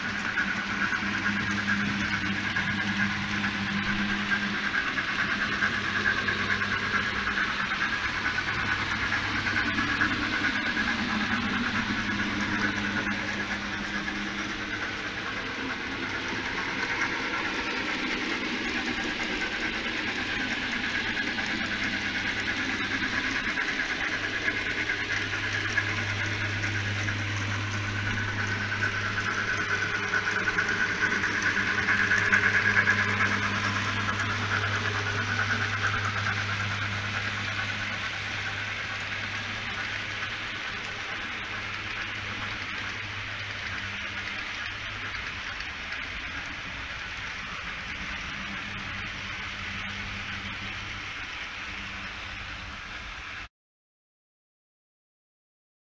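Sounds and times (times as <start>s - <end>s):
model train motor hum: 0.0s - 53.5s
wheels rolling on rails: 0.0s - 53.5s.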